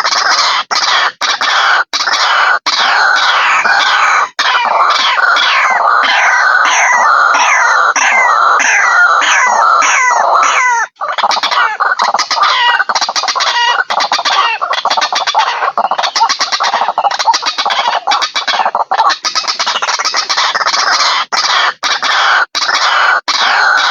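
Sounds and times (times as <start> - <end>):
waterhen calls: 0.0 - 23.9.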